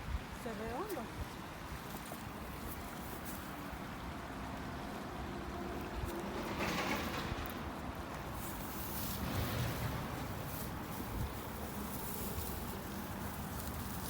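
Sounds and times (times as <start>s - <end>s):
low rumbling outdoor noise: 0.0s - 14.0s.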